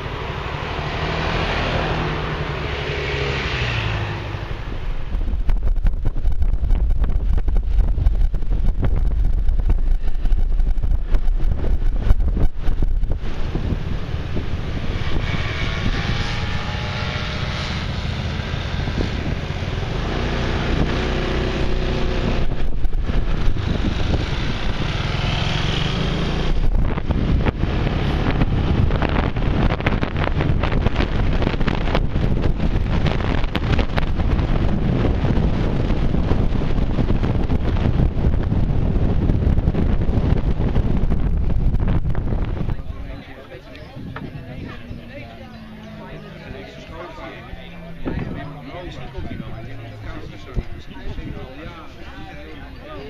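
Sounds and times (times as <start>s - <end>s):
wind buffeting microphone: 3.8s - 53.0s
scooter engines running: 6.3s - 53.0s.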